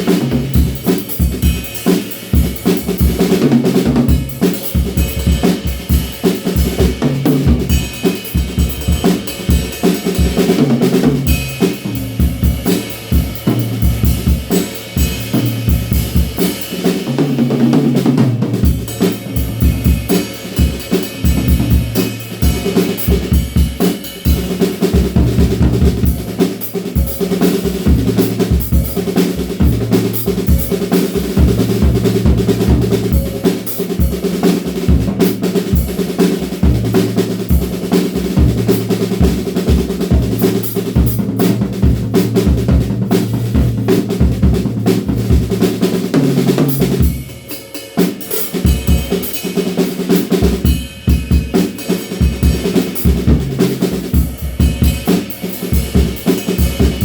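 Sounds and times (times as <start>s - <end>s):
drum kit rock beat: 0.0s - 57.0s.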